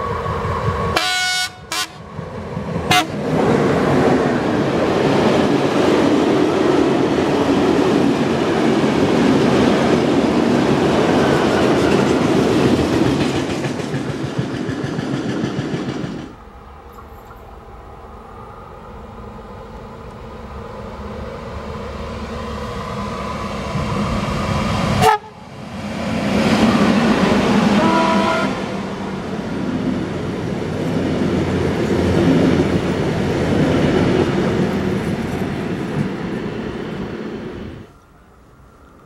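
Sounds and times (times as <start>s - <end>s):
train passing with rumble: 0.0s - 39.0s.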